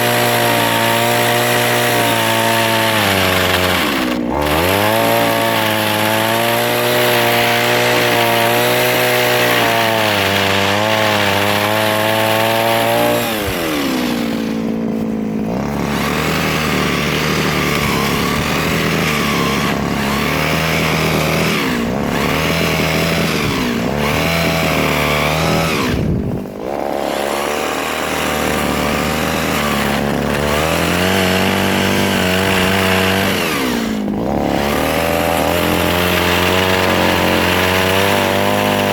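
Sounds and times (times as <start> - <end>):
mini chainsaw running: 0.0 - 38.9.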